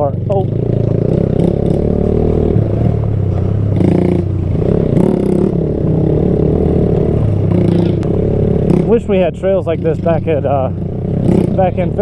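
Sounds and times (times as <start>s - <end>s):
bike rattling: 0.0s - 12.0s.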